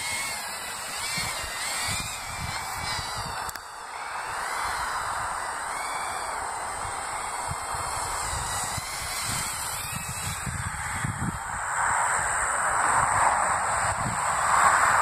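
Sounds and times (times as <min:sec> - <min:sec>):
drone motors whining: 0:00.0 - 0:15.0
wind on microphone: 0:00.0 - 0:15.0.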